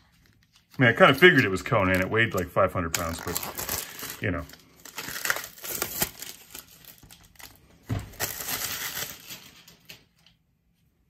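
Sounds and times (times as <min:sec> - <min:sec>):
plastic shrink wrap crinkling: 0:00.0 - 0:10.4.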